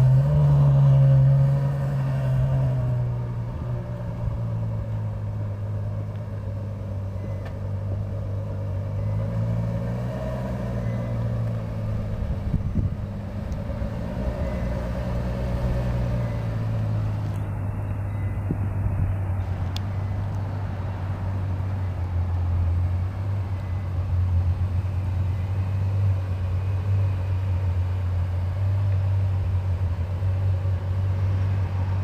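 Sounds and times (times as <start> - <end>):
car exhaust low note: 0.0 - 32.0.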